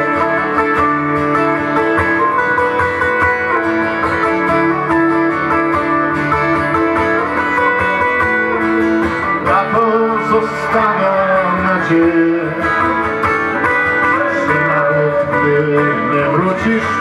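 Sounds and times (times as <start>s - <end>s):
acoustic guitar strumming: 0.0s - 17.0s
held backing notes: 0.0s - 17.0s.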